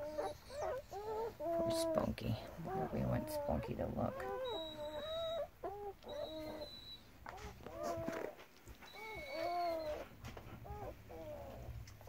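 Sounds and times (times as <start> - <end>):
dogs whining: 0.0 - 12.0.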